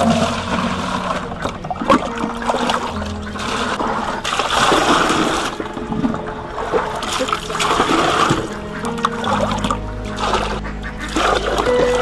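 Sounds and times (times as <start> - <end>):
water splashing in plastic buckets: 0.0 - 12.0.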